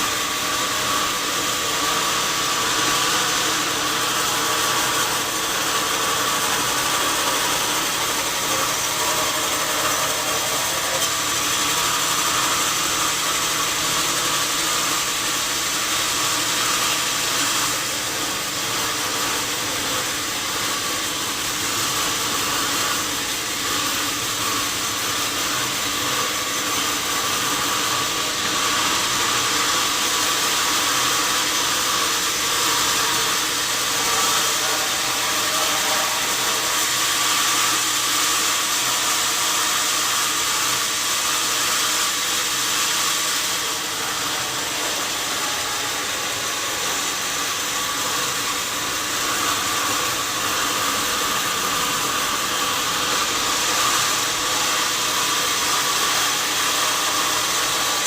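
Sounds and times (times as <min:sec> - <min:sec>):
sawmill saw hissing: 0:00.0 - 0:58.0.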